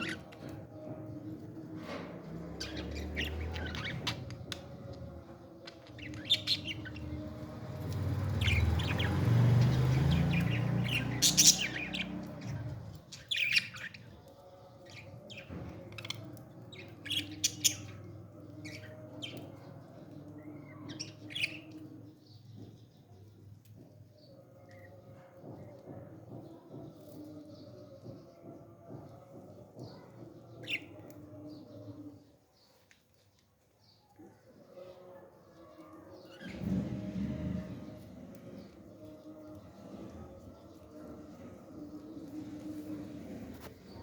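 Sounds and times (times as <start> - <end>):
parrot chicks chirping and squawking: 0.0 - 44.0.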